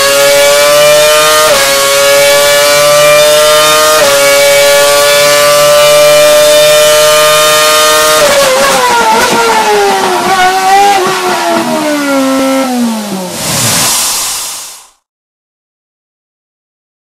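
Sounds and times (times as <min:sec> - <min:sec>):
racing car engine revving: 0:00.0 - 0:14.0.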